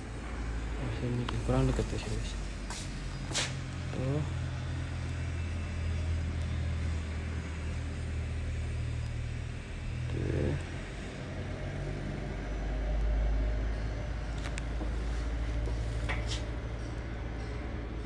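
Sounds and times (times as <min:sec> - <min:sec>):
low rumble of city traffic: 0:00.0 - 0:18.0.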